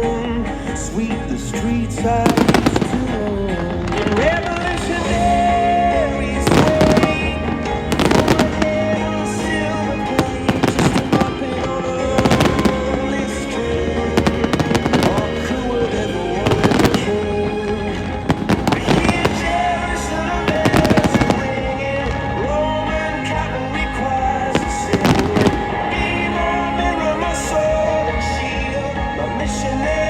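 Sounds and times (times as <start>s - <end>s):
music: 0.0s - 30.0s
fireworks bangs: 1.0s - 26.6s.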